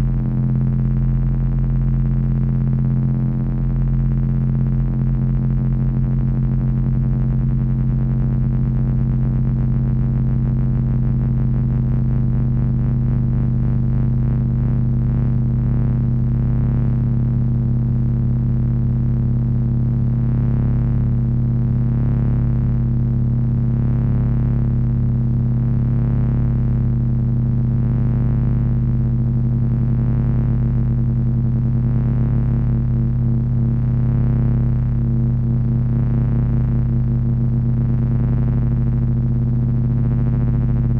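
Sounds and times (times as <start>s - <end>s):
electronic drone with pulsing beat: 0.0s - 40.9s
low rumble: 0.0s - 40.9s.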